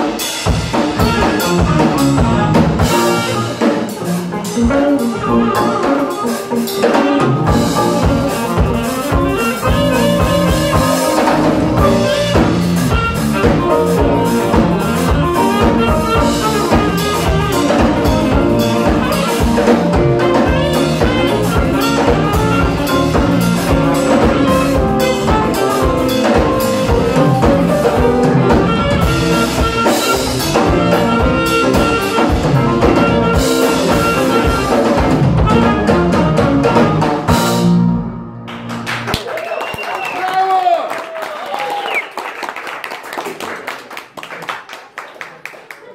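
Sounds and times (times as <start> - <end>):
saxophone lead: 0.0 - 38.4
drum kit beat: 0.0 - 39.1
electric guitar: 0.0 - 39.1
bass: 0.0 - 40.0
piano: 0.0 - 40.4.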